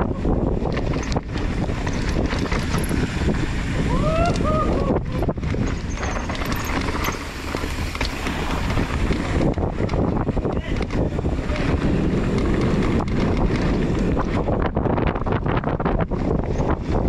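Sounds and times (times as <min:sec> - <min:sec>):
bike rattling on dirt: 0:00.0 - 0:17.0
wind buffeting microphone: 0:00.0 - 0:17.0.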